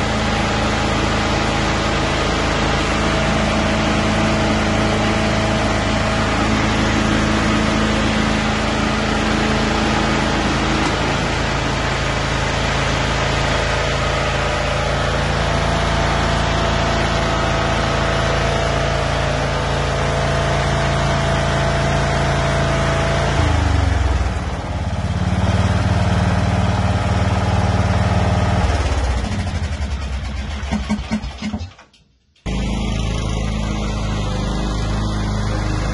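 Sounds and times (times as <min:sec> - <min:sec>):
lawn tractor engine running: 0:00.0 - 0:31.8, 0:32.4 - 0:35.9.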